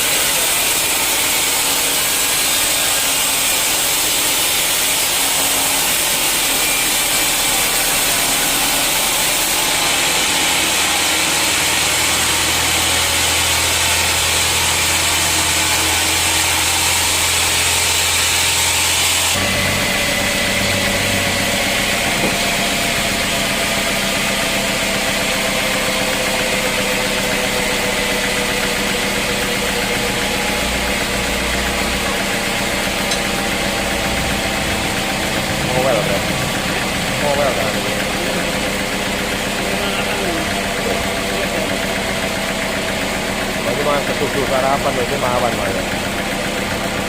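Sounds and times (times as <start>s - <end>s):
sawmill machinery running: 0.0s - 47.0s.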